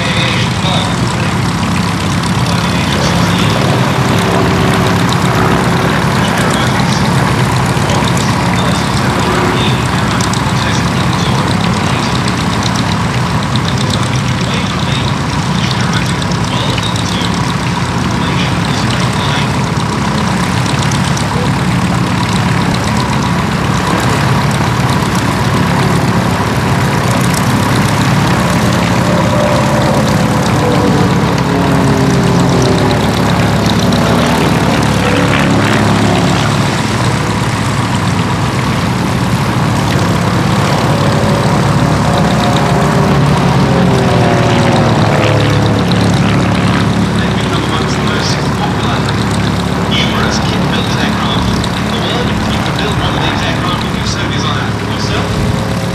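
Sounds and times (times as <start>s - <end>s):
propeller aircraft engine overhead: 0.0s - 55.9s.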